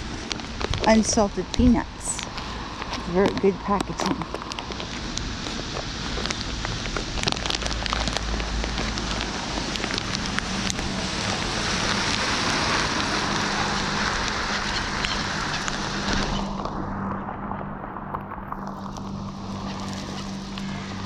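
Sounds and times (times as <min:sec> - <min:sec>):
rain pattering: 0:00.0 - 0:16.8, 0:17.6 - 0:21.0.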